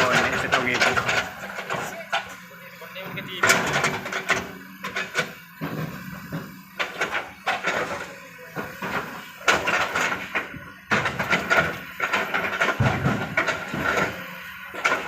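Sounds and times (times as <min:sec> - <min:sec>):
knocks and clattering: 0:00.0 - 0:02.4, 0:03.4 - 0:15.0.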